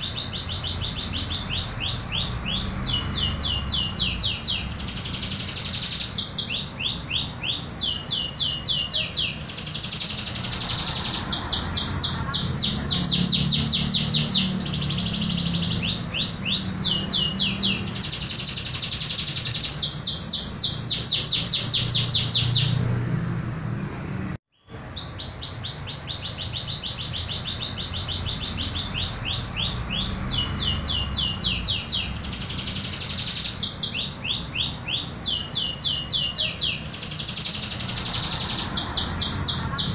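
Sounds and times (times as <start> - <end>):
canary trilling song: 0.0 - 23.4, 24.5 - 39.9.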